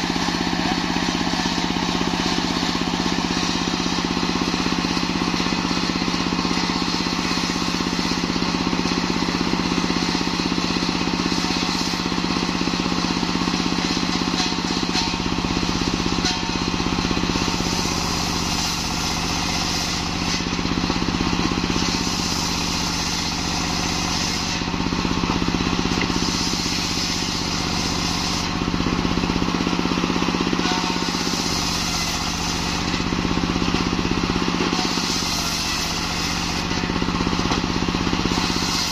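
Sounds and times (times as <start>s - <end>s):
circular saw cutting log: 0.0s - 38.9s
diesel engine running: 0.0s - 38.9s.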